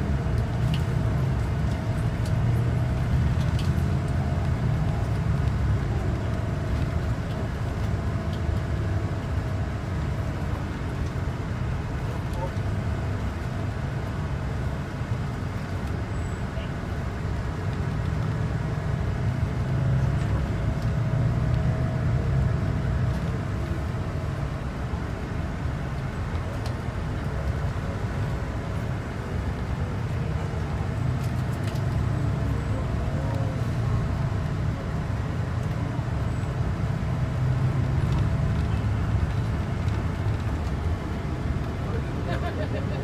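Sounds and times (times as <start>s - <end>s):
car interior road and engine rumble: 0.0s - 43.0s.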